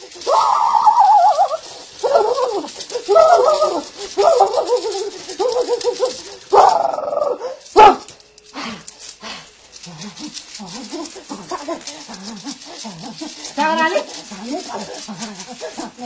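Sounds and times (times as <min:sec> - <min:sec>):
man chanting in trembling voice: 0:00.0 - 0:07.2, 0:09.7 - 0:16.0.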